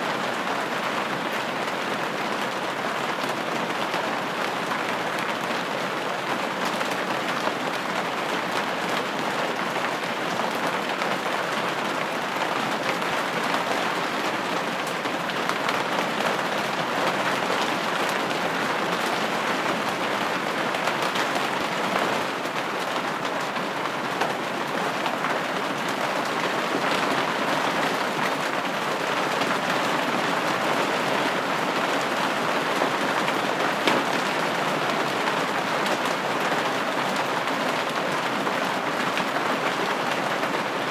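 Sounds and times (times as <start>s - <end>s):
rain pattering on a window: 0.0s - 40.9s.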